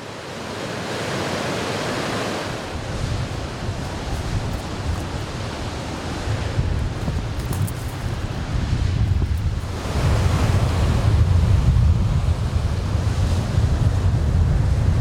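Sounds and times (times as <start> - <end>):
ocean surf washing ashore: 0.0 - 15.0
wind buffeting microphone: 2.4 - 15.0.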